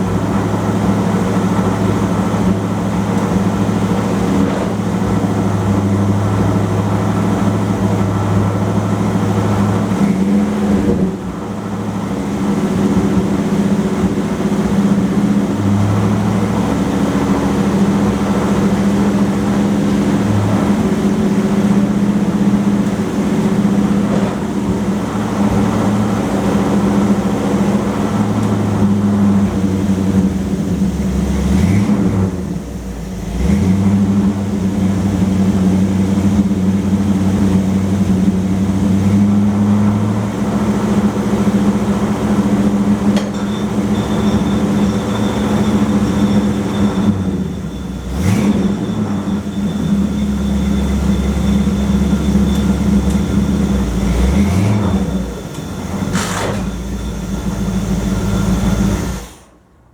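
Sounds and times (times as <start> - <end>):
car engine running: 0.0 - 59.2.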